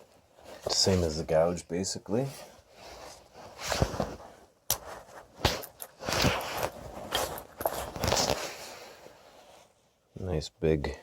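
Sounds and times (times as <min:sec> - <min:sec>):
rustles and scrapes: 0:00.0 - 0:10.4.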